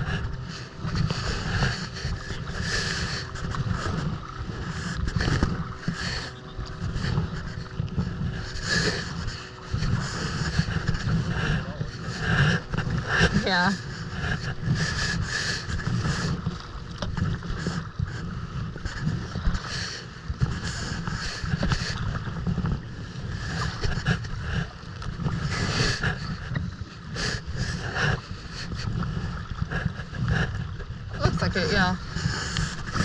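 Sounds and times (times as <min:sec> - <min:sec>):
water splashing against kayak: 0:00.0 - 0:33.0
wind buffeting microphone: 0:00.0 - 0:33.0.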